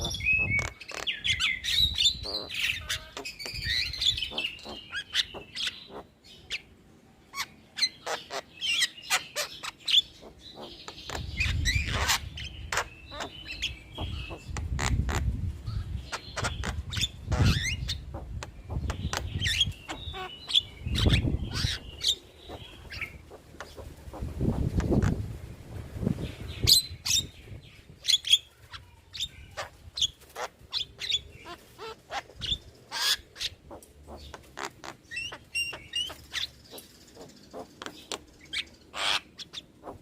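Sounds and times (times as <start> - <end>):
myna bird calling: 0.0 - 25.3, 26.5 - 40.0.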